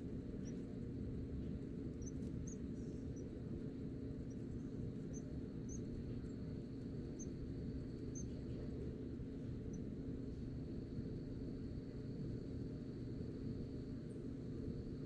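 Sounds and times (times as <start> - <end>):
faint thin whine: 0.0 - 15.0
low background rumble: 0.0 - 15.0.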